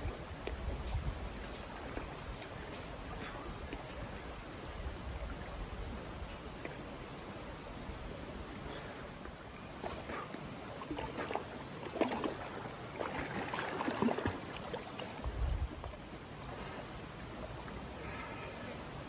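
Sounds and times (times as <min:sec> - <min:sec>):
stream water running: 0:00.0 - 0:19.0
water splashing and sloshing: 0:00.0 - 0:19.0.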